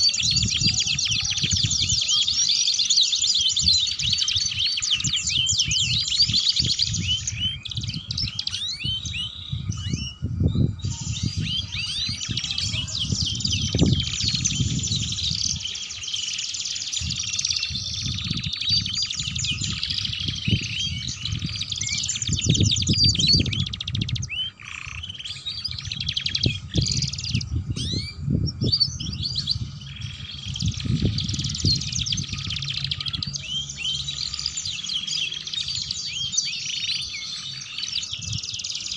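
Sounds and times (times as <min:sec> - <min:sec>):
canaries singing: 0:00.0 - 0:38.9.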